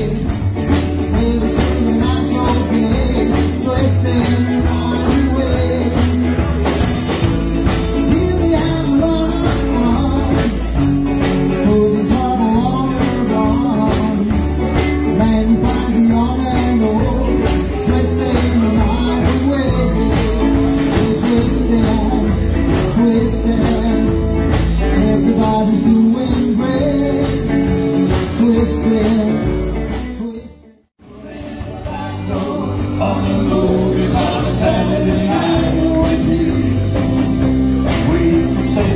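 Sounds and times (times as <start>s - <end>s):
band playing rock and roll: 0.0s - 38.9s.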